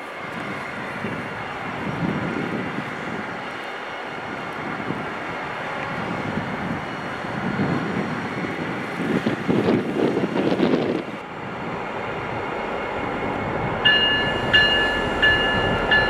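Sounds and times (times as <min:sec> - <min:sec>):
train rumbling past: 0:00.0 - 0:16.0
wind on microphone: 0:00.2 - 0:03.6, 0:04.2 - 0:16.0.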